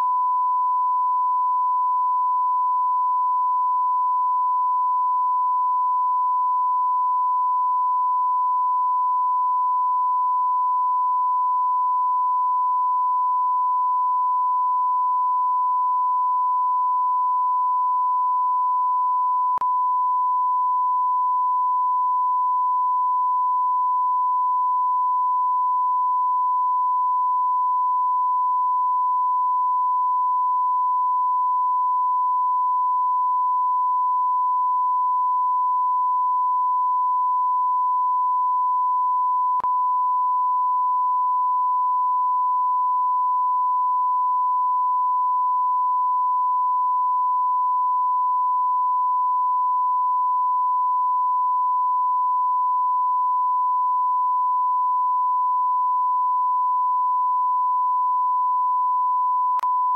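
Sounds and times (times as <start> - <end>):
sine wave reference tone: 0.0 - 59.9.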